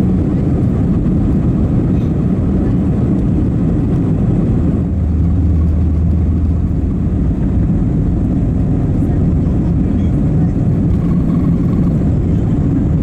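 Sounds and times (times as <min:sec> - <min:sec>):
airliner engine and airflow rumble: 0:00.0 - 0:13.0
low drone: 0:00.0 - 0:13.0.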